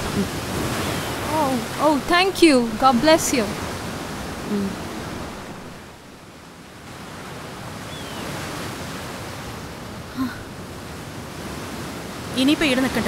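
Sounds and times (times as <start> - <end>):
surf washing on beach: 0.0 - 13.0.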